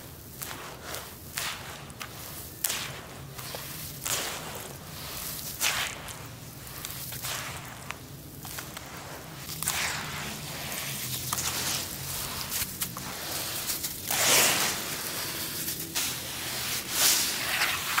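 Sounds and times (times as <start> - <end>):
charcoal crunching and rustling: 0.0 - 18.0.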